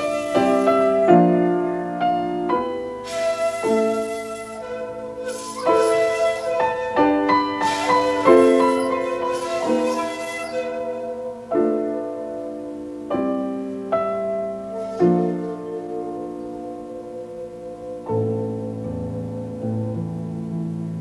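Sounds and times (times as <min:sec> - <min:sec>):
breathy flute notes: 0:00.0 - 0:12.6, 0:14.2 - 0:19.6
piano chords ringing: 0:00.0 - 0:21.0.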